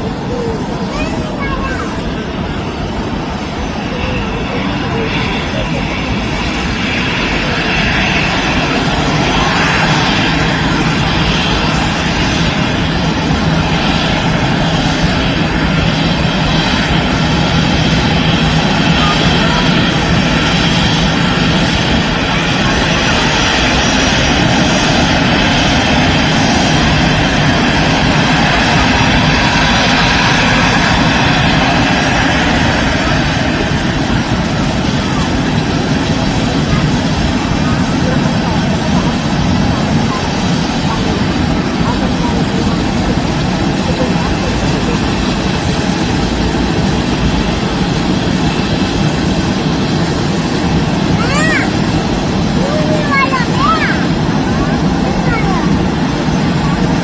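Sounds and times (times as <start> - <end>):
airplane engines running: 0.0 - 57.0.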